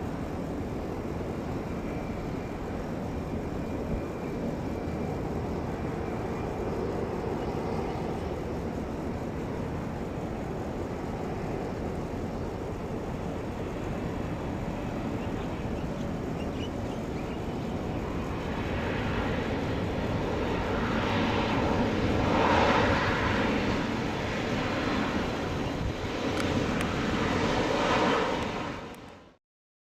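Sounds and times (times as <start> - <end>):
jet airliner engine rush: 0.0 - 29.4.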